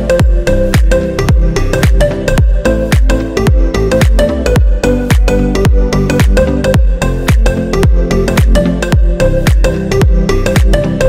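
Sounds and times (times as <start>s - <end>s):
heavy deep kick drum: 0.0s - 10.8s
electronic dance music: 0.0s - 11.0s.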